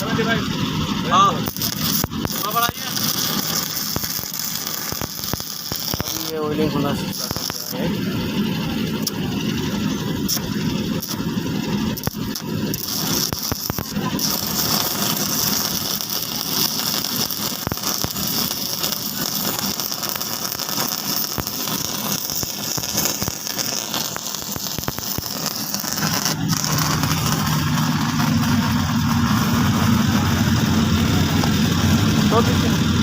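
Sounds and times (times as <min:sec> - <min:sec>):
steady low hum: 0:00.0 - 0:33.0
welding arc crackling and hissing: 0:00.0 - 0:33.0.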